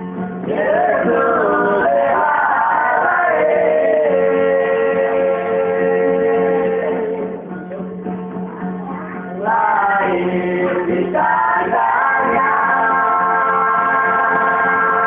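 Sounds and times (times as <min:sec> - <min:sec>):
voices singing: 0:00.4 - 0:07.6, 0:09.1 - 0:15.0.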